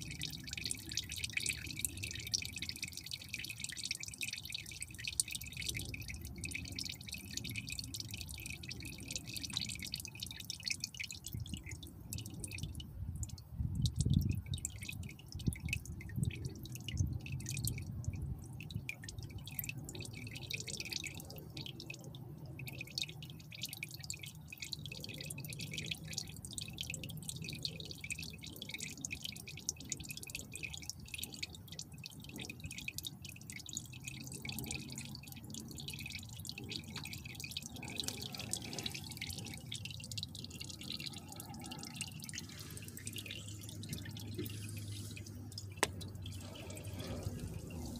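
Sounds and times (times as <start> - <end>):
oil dripping and pattering: 0.0 - 47.9.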